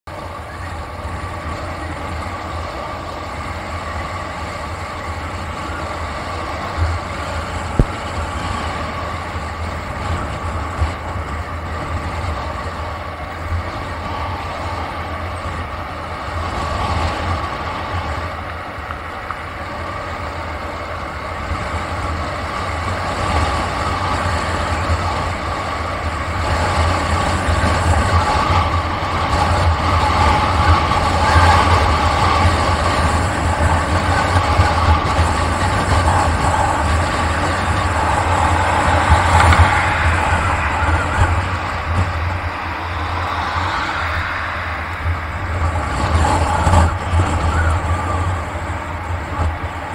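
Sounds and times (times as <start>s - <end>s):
road and wind noise: 0.0s - 49.9s.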